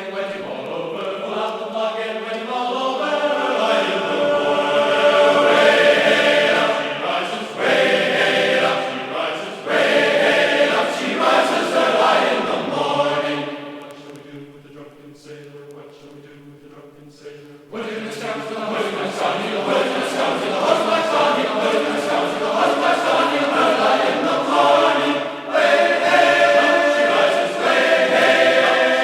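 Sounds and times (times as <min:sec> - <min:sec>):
choir singing a chant: 0:00.0 - 0:29.0.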